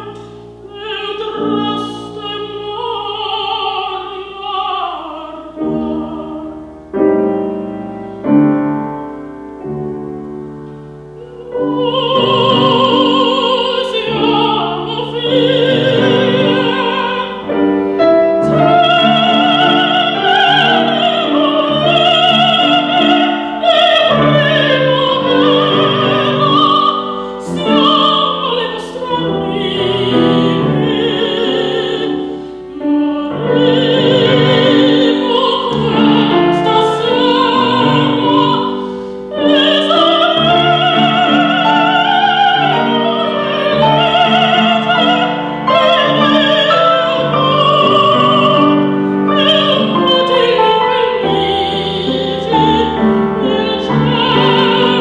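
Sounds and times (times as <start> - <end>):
woman singing operatically: 0.0 - 8.0, 11.1 - 55.0
grand piano: 0.0 - 55.0.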